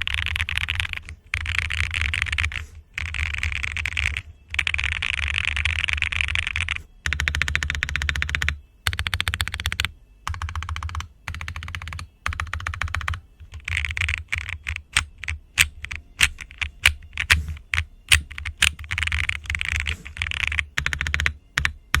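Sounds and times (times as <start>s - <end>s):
typing on mechanical keyboard: 0.0s - 22.0s.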